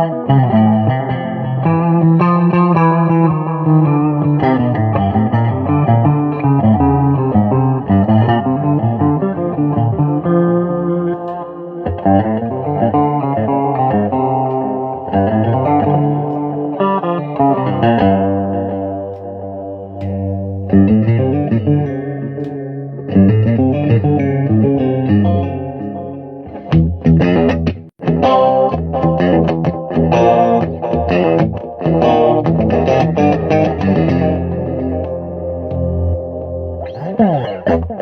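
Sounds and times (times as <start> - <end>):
guitar played through effects: 0.0 - 38.0.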